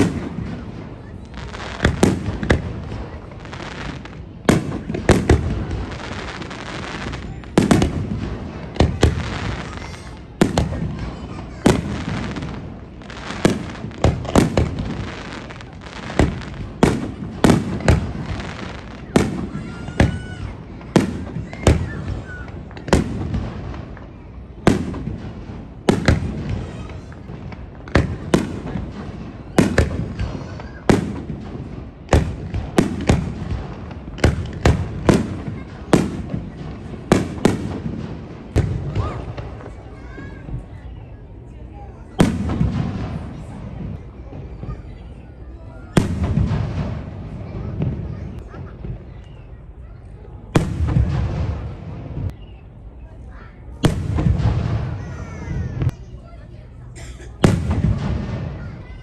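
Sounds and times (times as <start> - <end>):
background noise: 0.0 - 59.0
fireworks bangs: 0.0 - 59.0.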